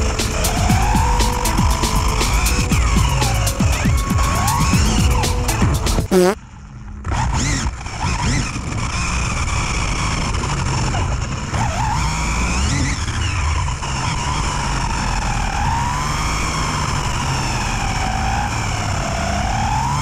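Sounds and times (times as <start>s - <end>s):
rc car motor whine: 0.0s - 5.8s, 6.5s - 20.0s.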